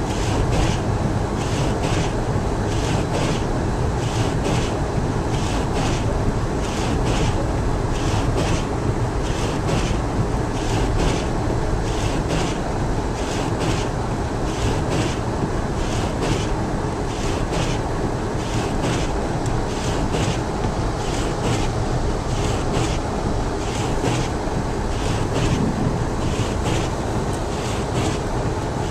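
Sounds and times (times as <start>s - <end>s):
road and engine rumble: 0.0s - 28.9s.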